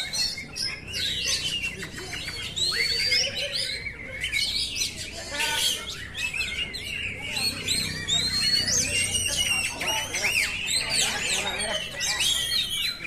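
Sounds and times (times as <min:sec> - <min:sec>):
bird singing whistles and trills: 0:00.0 - 0:13.0.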